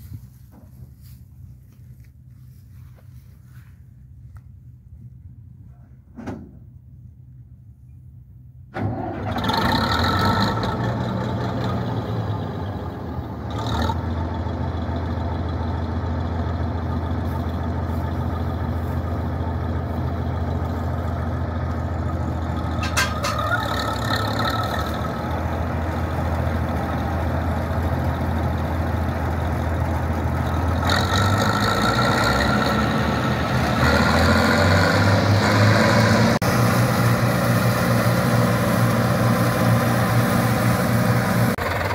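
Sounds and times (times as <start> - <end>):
diesel engine starting and running: 0.0 - 41.9.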